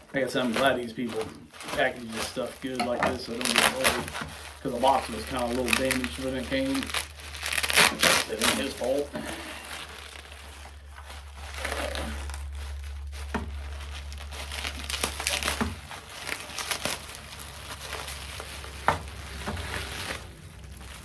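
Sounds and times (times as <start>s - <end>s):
packing material crinkling: 0.0s - 21.0s.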